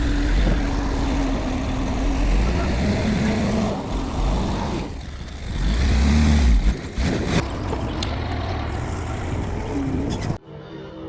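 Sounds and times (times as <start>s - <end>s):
bulldozer diesel engine under load: 0.0s - 10.4s.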